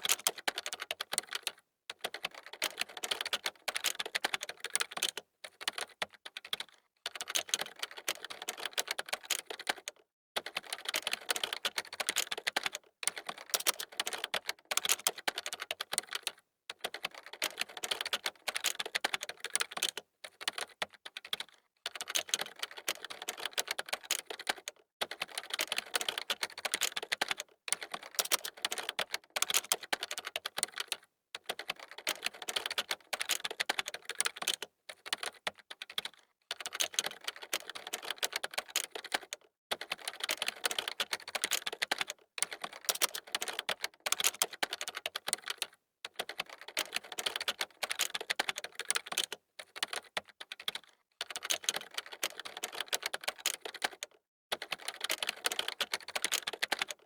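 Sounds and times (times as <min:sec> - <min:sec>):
fast typing on keyboard: 0:00.0 - 0:57.0.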